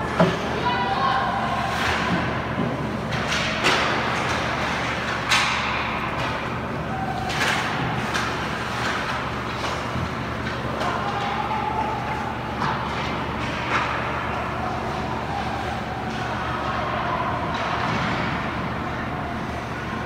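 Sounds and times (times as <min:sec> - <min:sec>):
ice skating and rink noise: 0:00.0 - 0:20.0.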